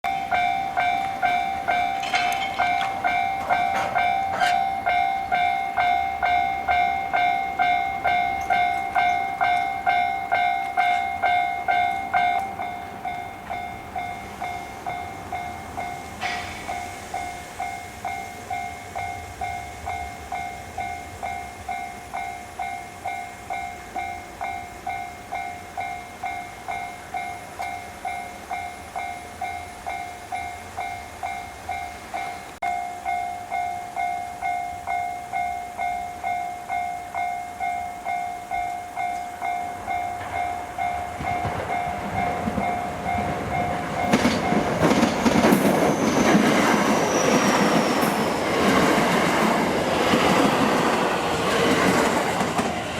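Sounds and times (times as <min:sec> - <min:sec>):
level crossing warning bell: 0:00.0 - 0:52.9.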